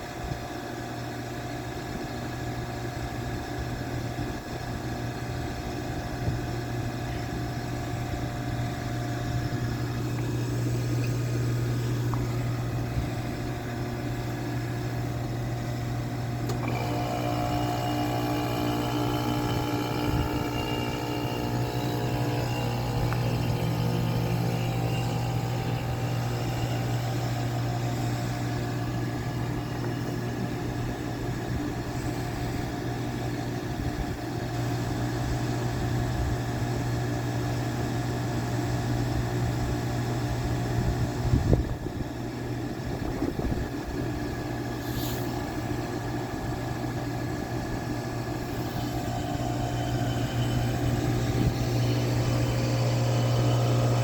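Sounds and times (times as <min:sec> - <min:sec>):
heat pump humming: 0:00.0 - 0:54.0.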